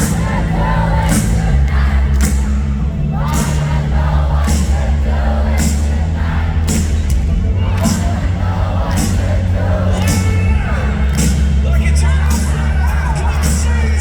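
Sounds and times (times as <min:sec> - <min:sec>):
live pop-rock band: 0:00.0 - 0:14.0
voices singing: 0:00.0 - 0:14.0.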